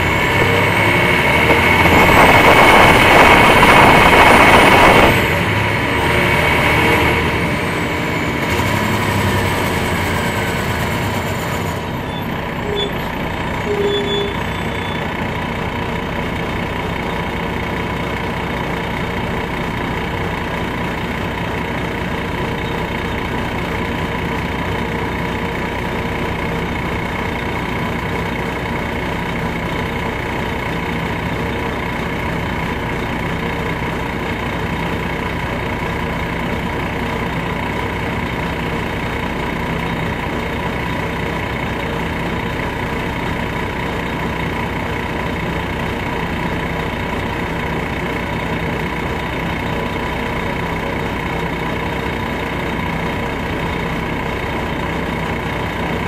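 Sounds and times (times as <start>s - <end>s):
diesel engine whining: 0.0s - 56.0s.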